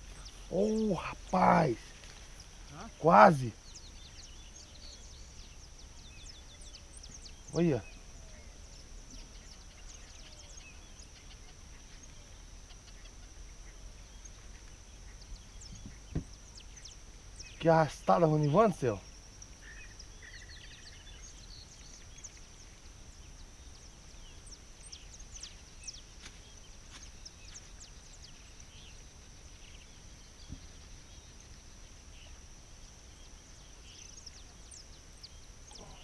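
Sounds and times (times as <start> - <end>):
bird chirps: 0.0 - 32.4
high-pitched insect trill: 0.0 - 36.0.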